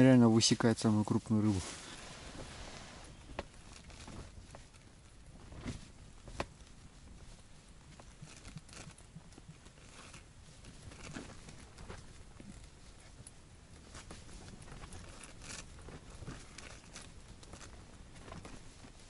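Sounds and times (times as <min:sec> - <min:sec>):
soft rustling: 0:00.0 - 0:19.0.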